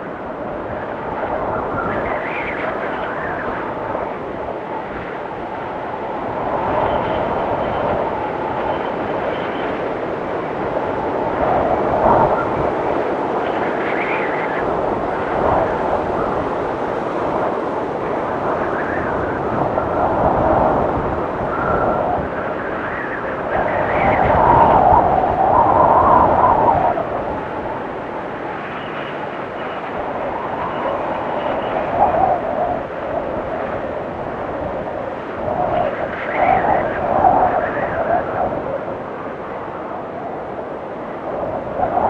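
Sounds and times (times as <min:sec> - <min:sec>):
blizzard wind rushing: 0:00.0 - 0:42.0
faint high wind whistles: 0:00.0 - 0:42.0.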